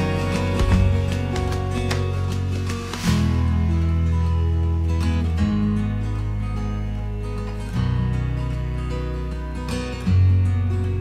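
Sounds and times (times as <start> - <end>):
gentle acoustic guitar music: 0.0 - 11.0.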